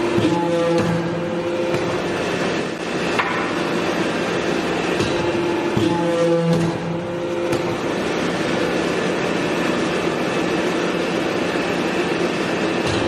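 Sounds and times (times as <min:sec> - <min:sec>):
hydraulic press mechanical noise: 0:00.0 - 0:13.0
machine hum: 0:00.0 - 0:13.0.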